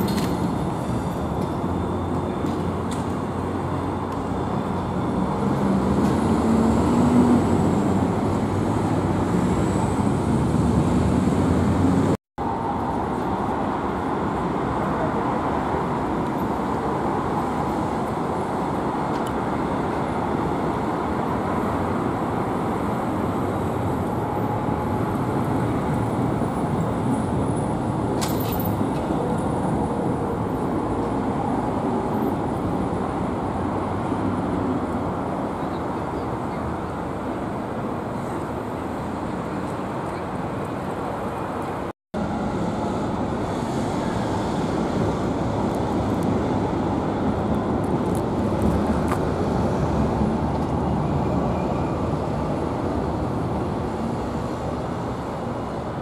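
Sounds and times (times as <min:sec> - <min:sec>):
street noise: 0:00.0 - 0:56.0
tram passing with whine: 0:00.0 - 0:56.0.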